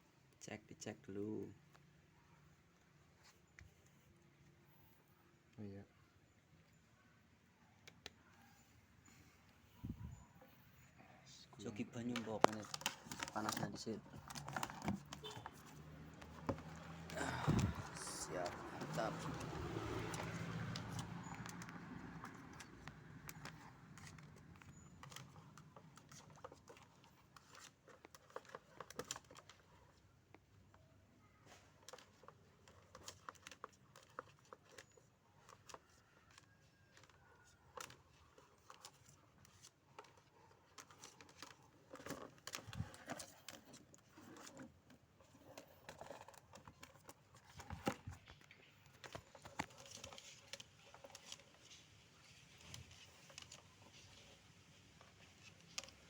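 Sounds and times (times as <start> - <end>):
clicks taps and crinkling: 5.2 - 56.0.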